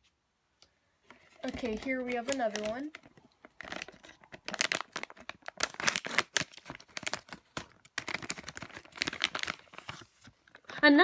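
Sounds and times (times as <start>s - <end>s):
plastic package crinkling and tearing: 1.3s - 10.8s.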